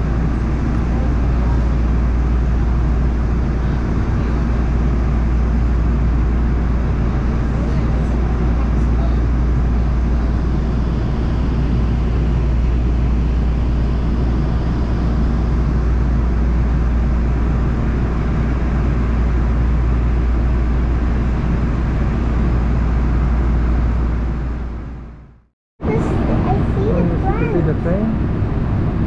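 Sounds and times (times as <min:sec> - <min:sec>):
train rumbling and rolling: 0:00.0 - 0:25.2, 0:25.8 - 0:29.0.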